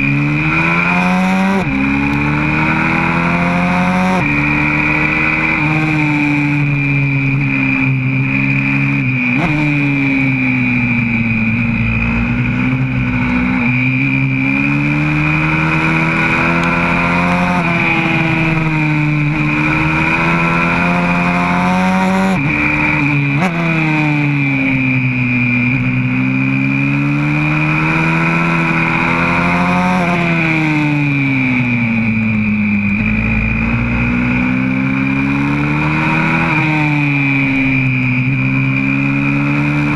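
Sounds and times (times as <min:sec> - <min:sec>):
high-pitched whine: 0:00.0 - 0:39.9
motorbike engine revving: 0:00.0 - 0:39.9.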